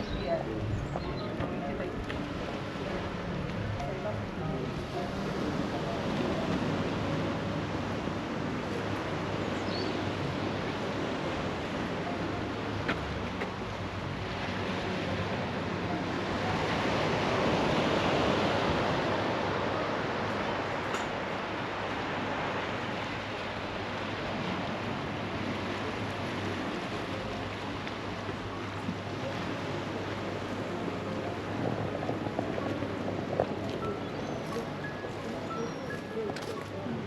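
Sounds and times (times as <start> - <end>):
sea surf washing onto beach: 0.0 - 37.0.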